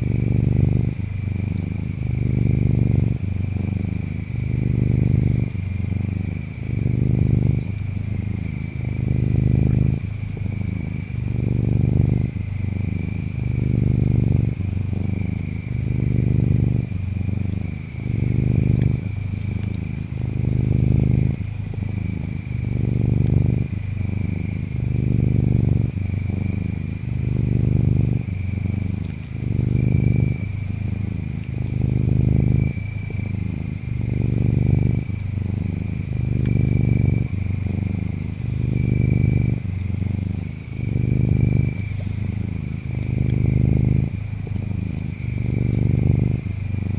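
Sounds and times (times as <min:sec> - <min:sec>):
cat purring: 0:00.0 - 0:46.9
crickets chirping: 0:00.0 - 0:46.9
insect buzzing: 0:00.0 - 0:46.9.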